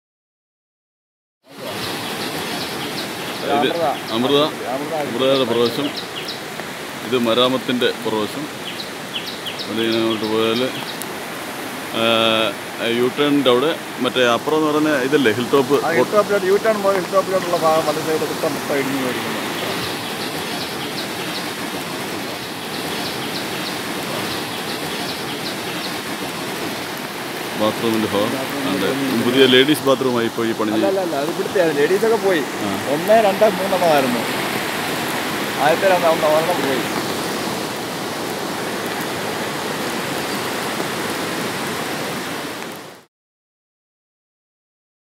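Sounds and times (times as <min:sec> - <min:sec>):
heavy rain rushing: 0:01.5 - 0:43.1.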